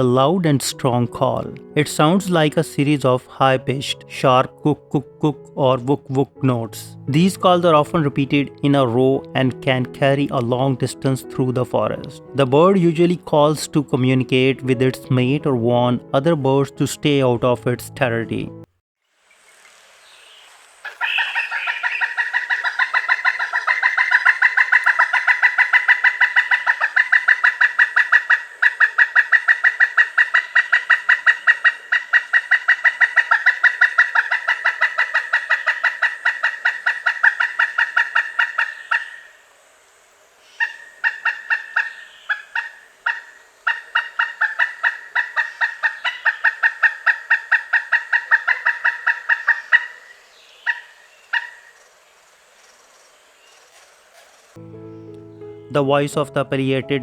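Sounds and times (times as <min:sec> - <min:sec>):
woodpecker calling: 0:00.0 - 0:17.3, 0:20.0 - 0:39.5, 0:40.4 - 0:57.0.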